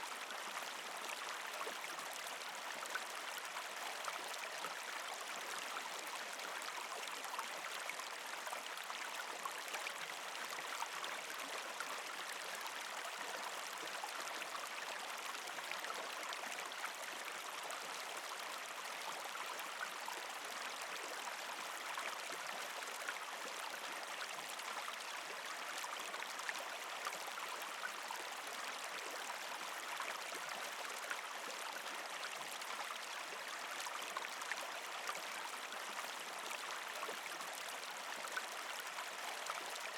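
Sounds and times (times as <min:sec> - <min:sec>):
creek gurgling over rocks: 0:00.0 - 0:39.9.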